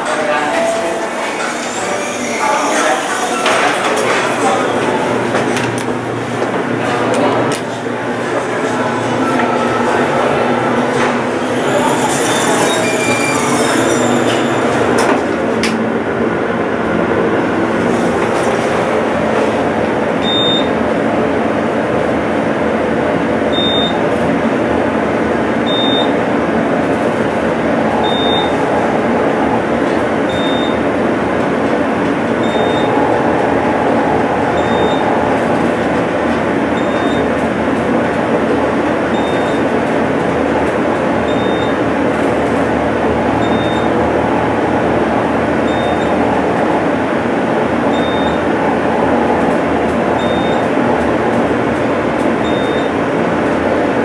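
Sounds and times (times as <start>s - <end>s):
elevator ride rushing noise: 0.0s - 54.0s.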